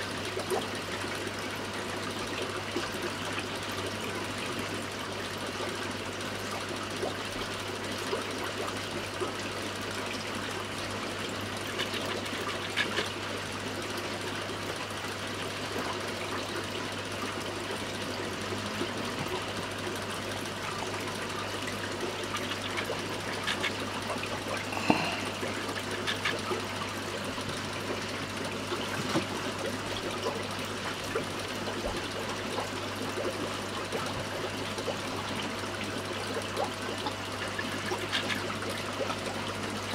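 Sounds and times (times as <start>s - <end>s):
aquarium water trickling: 0.0s - 39.9s
low even hum: 6.5s - 39.9s.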